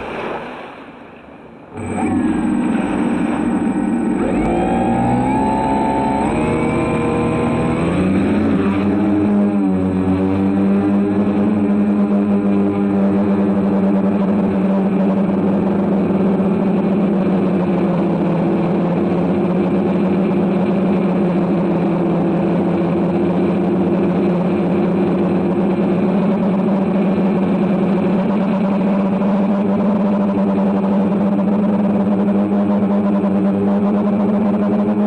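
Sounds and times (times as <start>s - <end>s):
drone propellers buzzing: 1.7s - 35.0s.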